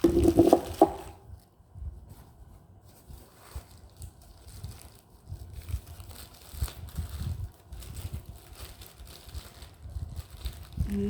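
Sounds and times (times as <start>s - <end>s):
packing material rustling: 0.0s - 11.0s.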